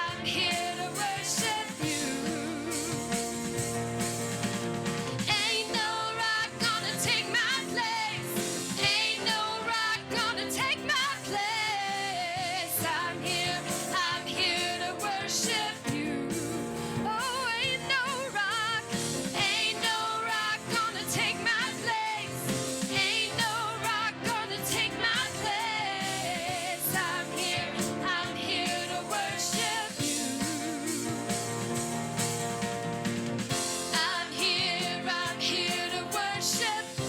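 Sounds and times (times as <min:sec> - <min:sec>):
worship team singing with vibrato: 0:00.0 - 0:32.2, 0:33.4 - 0:37.0
band playing: 0:00.0 - 0:37.0.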